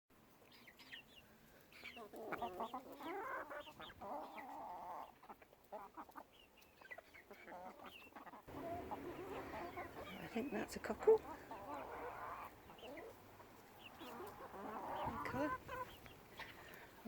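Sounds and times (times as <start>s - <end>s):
young chickens clucking and peeping: 0.2s - 17.0s.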